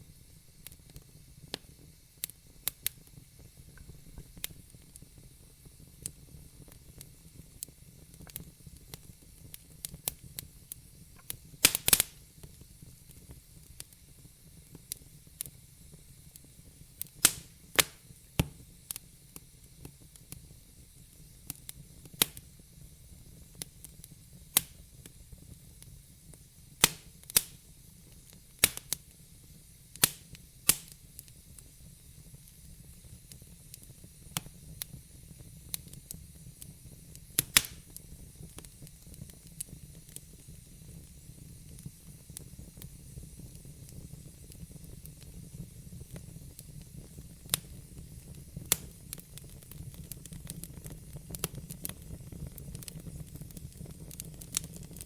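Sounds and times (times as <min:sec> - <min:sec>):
hiss of burning: 0:00.0 - 0:55.0
wood fire crackling and popping: 0:00.1 - 0:55.0.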